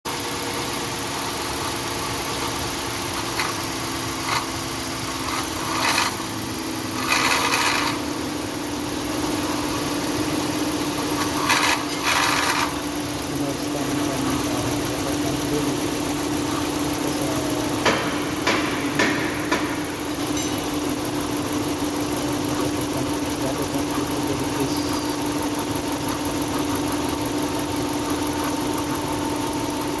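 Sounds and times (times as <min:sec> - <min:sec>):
car engine running: 0:00.1 - 0:30.0
steady hum: 0:01.2 - 0:30.0.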